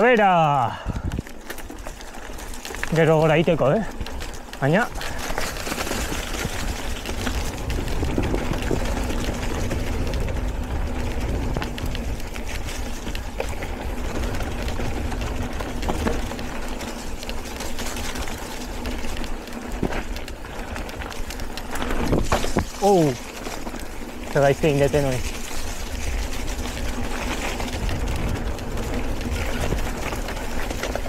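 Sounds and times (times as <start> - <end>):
bike hum: 0.0 - 31.0
knocks and rattles of bike: 0.0 - 31.0
wind rumbling on microphone: 0.0 - 31.0.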